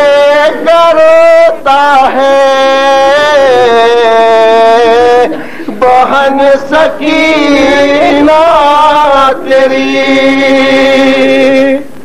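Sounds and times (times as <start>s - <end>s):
man chanting into a microphone: 0.0s - 11.9s.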